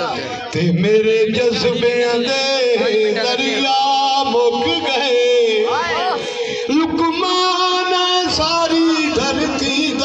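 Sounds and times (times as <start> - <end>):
man singing into a microphone: 0.0 - 10.0.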